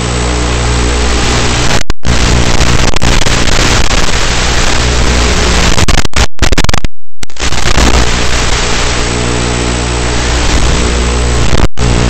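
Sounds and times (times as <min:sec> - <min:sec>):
propeller motor and rushing air: 0:00.0 - 0:06.3, 0:07.3 - 0:12.0
steady low hum: 0:00.0 - 0:12.0.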